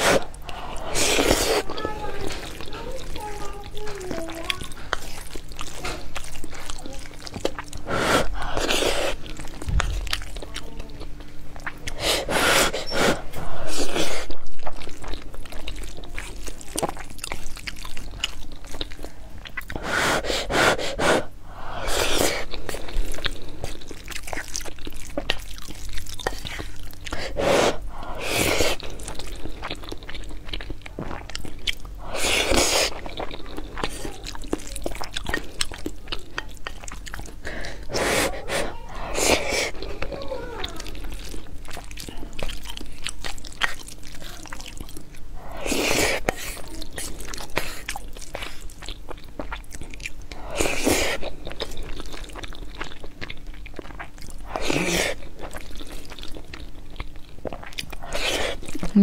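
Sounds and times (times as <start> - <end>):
chewing and wet mouth sounds: 0.0 - 59.0.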